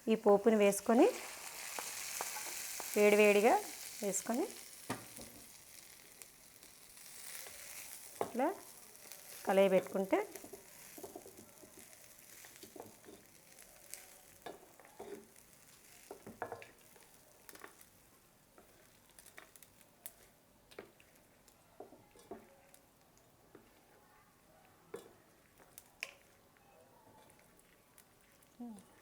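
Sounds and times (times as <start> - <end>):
faint sizzle: 0.0 - 29.0.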